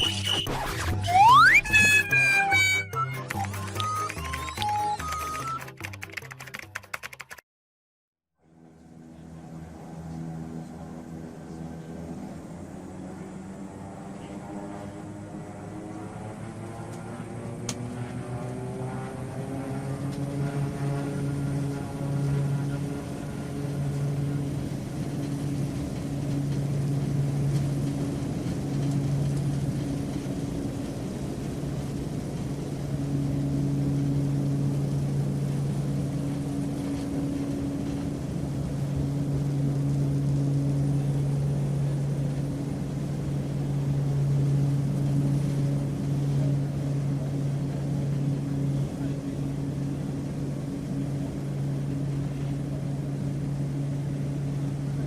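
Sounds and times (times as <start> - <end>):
airplane engines humming in flight: 0.0 - 7.4, 8.4 - 55.0.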